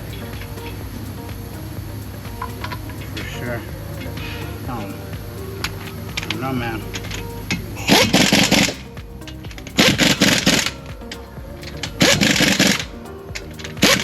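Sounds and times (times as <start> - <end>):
background music with rattling beat: 0.0 - 14.0.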